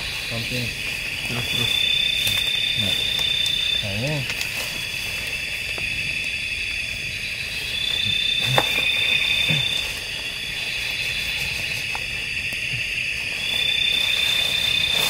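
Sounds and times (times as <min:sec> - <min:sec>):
insect trilling high note: 0:00.0 - 0:04.3, 0:05.4 - 0:15.0
tent fabric and poles rustling: 0:00.0 - 0:06.4, 0:07.5 - 0:15.0
chorus of night insects: 0:00.0 - 0:15.0.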